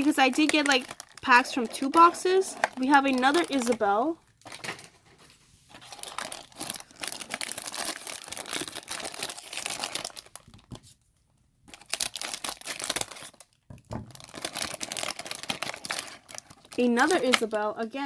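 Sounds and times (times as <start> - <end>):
plastic package tearing and crinkling: 0.0 - 4.9, 5.7 - 10.8, 11.7 - 17.6.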